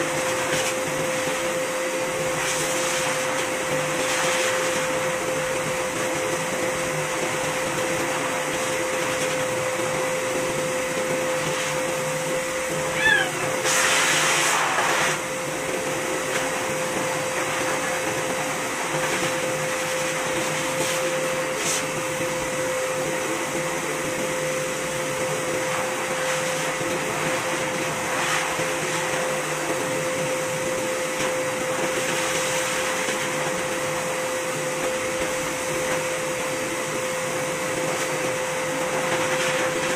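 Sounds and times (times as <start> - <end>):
grooming vacuum humming: 0.0 - 39.9.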